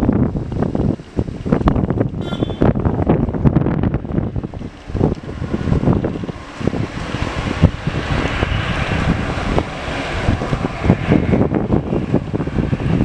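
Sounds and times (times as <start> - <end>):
jet engines taxiing: 0.0 - 13.0
wind buffeting microphone: 0.0 - 13.0.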